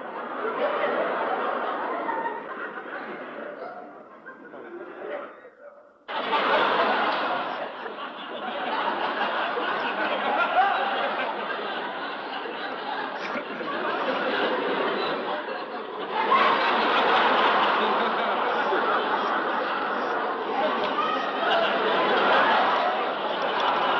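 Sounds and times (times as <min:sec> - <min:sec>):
crowd laughing: 0:00.0 - 0:23.9.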